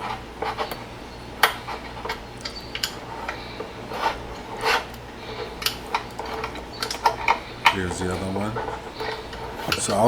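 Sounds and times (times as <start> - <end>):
screwdriver clicking and scraping metal: 0.0 - 10.0
steady low hum: 0.0 - 10.0.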